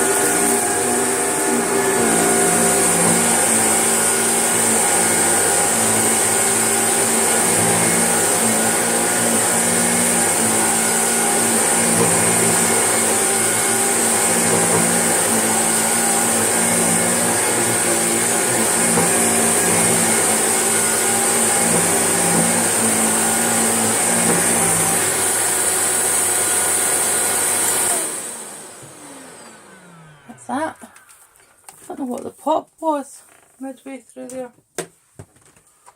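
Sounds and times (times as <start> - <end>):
vacuum cleaner running: 0.0 - 32.2.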